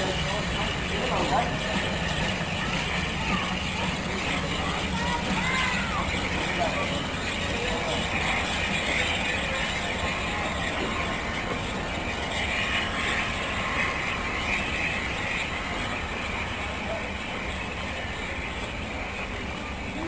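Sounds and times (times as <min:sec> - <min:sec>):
steam locomotive hissing steam: 0:00.0 - 0:20.0.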